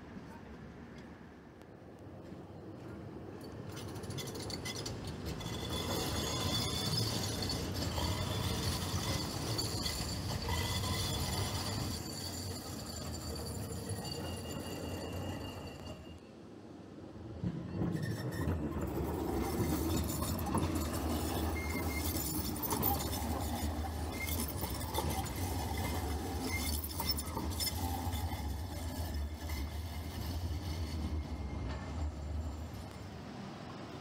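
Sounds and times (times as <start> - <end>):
tram rumbling on rails: 0.0 - 34.0
wheels squeaking on track: 2.6 - 16.4, 17.5 - 34.0.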